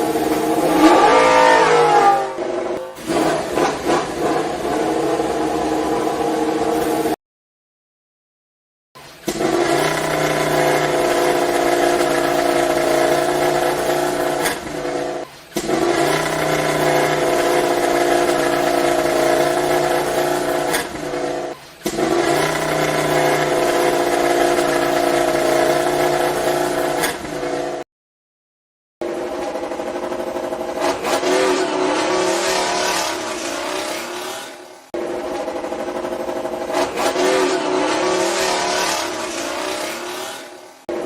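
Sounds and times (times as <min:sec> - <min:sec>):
racing motorcycle engine at high revs: 0:00.0 - 0:07.2, 0:09.2 - 0:27.8, 0:29.0 - 0:41.0.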